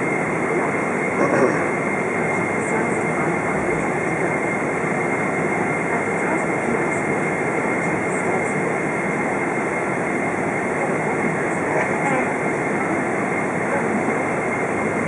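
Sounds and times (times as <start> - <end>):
jet engine and airflow in cabin: 0.0 - 15.0.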